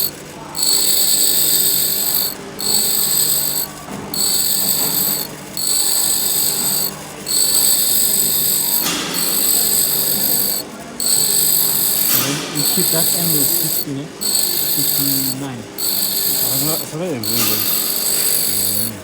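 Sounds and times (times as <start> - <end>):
grinder motor low hum: 0.0 - 19.0
grinding wheel whine on steel: 0.0 - 19.0.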